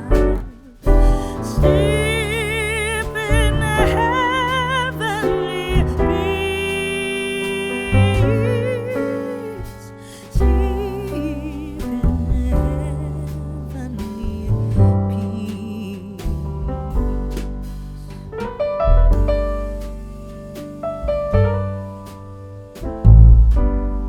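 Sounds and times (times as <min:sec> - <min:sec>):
deep bass note: 0:00.0 - 0:07.1, 0:07.8 - 0:09.8, 0:10.4 - 0:24.0
piano music: 0:00.0 - 0:24.0.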